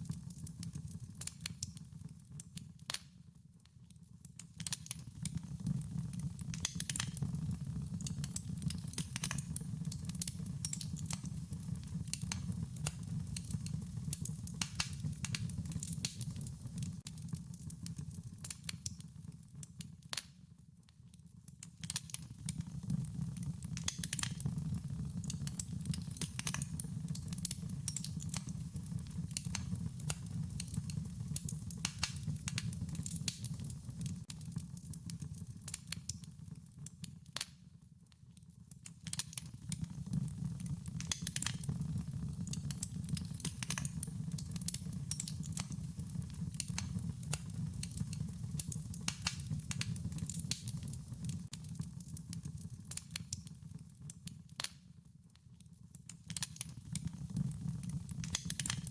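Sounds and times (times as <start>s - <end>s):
wood fire crackling and popping: 0.0s - 58.9s.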